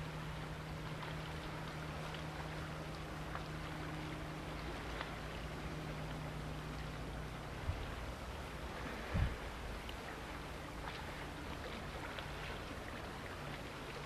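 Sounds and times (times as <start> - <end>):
choppy water: 0.0 - 14.0
distant outboard motors droning: 0.0 - 14.0.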